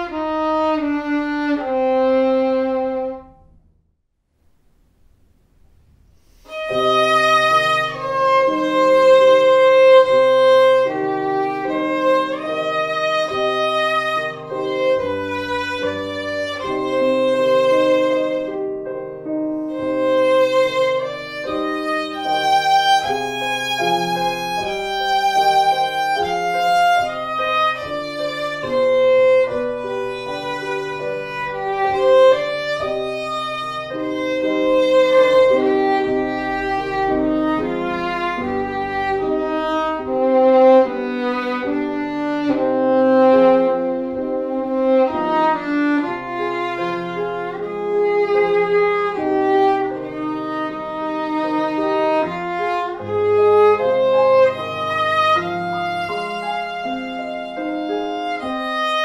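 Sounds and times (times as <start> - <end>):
viola melody: 0.0 - 3.6, 6.2 - 59.0.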